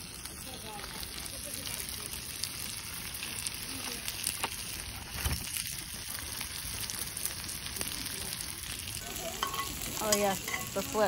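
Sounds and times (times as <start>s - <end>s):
campfire pops and crackles: 0.0s - 11.0s
food sizzling in skillets: 0.0s - 11.0s.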